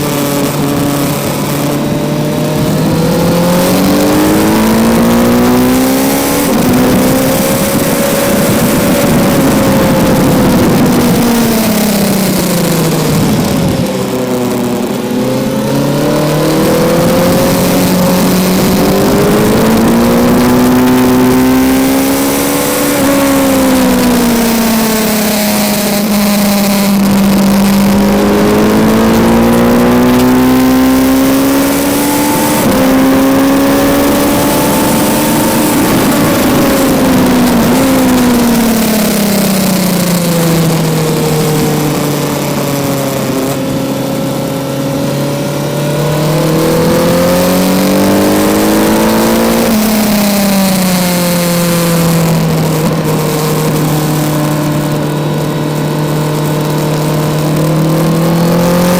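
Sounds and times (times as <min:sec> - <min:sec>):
motorcycle engine revving: 0:00.0 - 0:58.9
wind rushing past microphone: 0:00.0 - 0:58.9.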